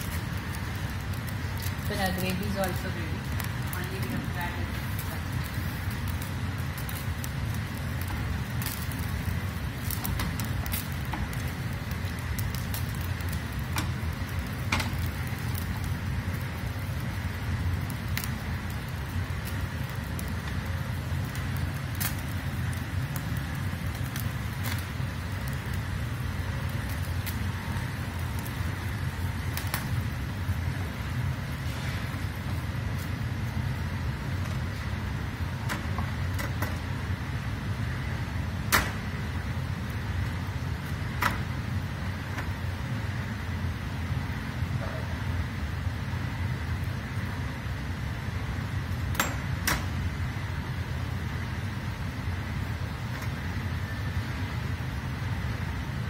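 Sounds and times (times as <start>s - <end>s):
flatbread crackling on hot pan: 0.0s - 56.0s
gas burner rumble and hiss: 0.0s - 56.0s.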